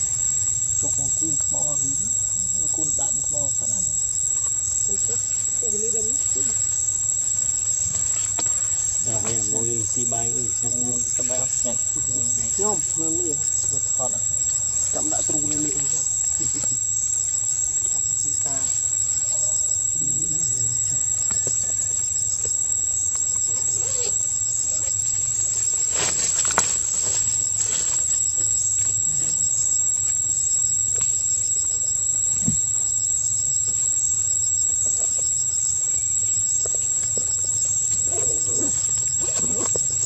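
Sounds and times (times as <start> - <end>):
high-pitched insect drone: 0.0 - 40.0.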